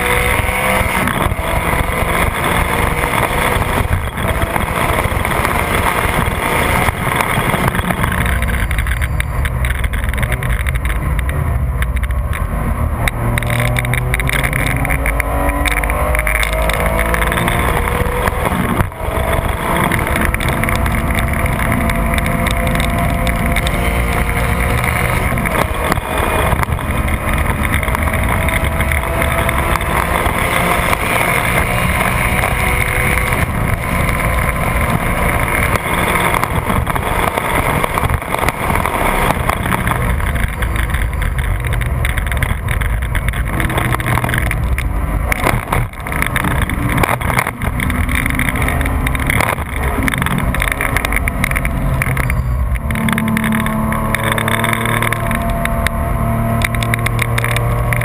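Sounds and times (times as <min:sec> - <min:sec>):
car engine accelerating hard: 0:00.0 - 0:58.0
wind and road noise: 0:00.0 - 0:58.0.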